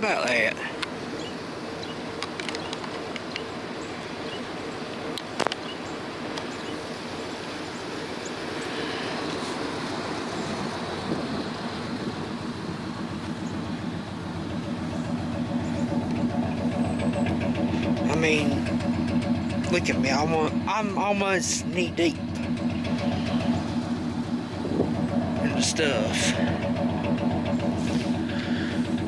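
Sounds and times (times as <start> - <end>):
pickup truck engine idling: 0.0 - 29.0.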